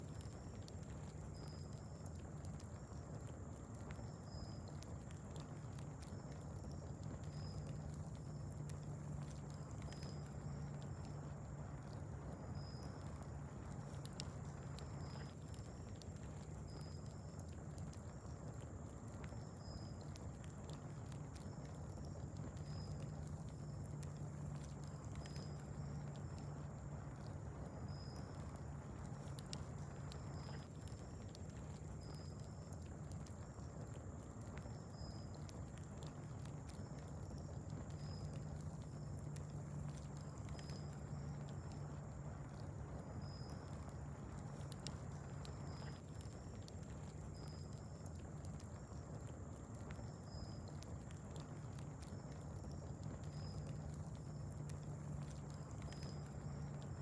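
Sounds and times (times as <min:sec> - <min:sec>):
steady low hum: 0:00.0 - 0:57.0
wood fire crackling: 0:00.0 - 0:57.0.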